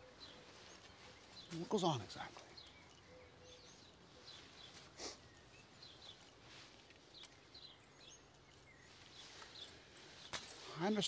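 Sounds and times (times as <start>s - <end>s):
faint bird chirps: 0.0s - 11.0s
quiet outdoor ambience: 0.0s - 11.0s.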